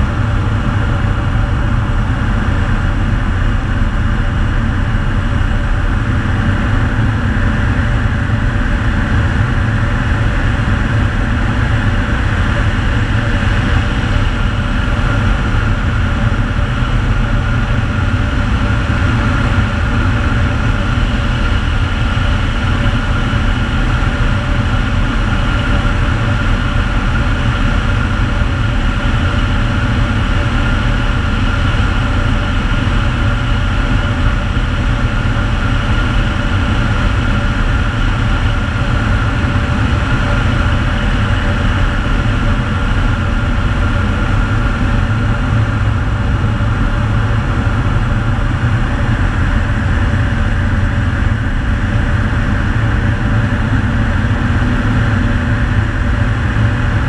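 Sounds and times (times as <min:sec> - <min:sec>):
turboprop engine drone: 0:00.0 - 0:57.0.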